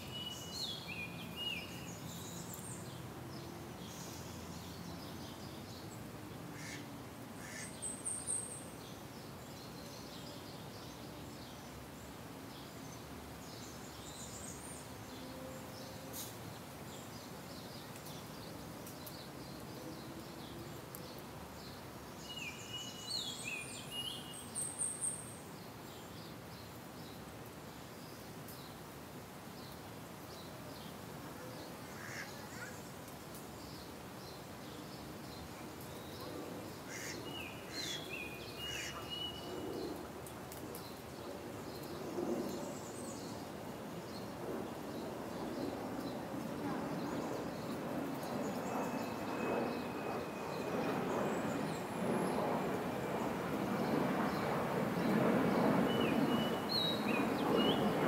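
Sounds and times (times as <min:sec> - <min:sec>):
faint background noise: 0:00.0 - 0:58.0.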